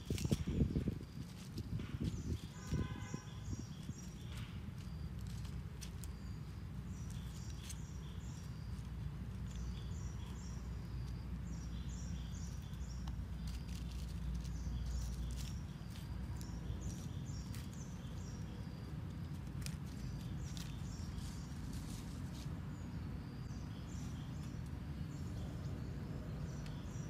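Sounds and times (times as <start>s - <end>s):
bird chirps: 0.0s - 27.0s
dry leaves crackling underfoot: 0.0s - 27.0s.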